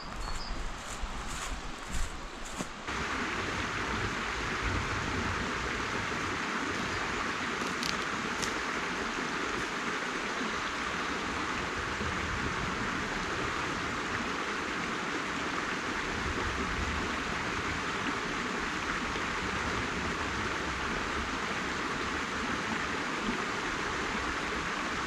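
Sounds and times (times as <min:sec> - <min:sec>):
flowing water: 0:00.0 - 0:25.0.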